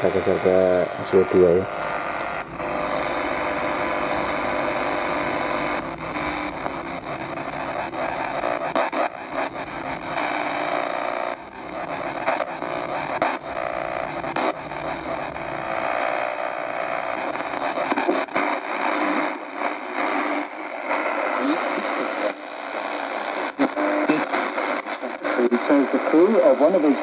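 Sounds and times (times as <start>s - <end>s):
shortwave radio static hissing: 0.0s - 27.0s.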